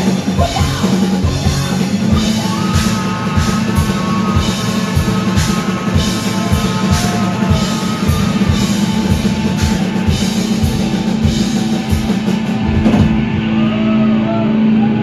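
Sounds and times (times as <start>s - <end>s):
drum kit: 0.0s - 15.0s
electric guitars: 0.0s - 15.0s.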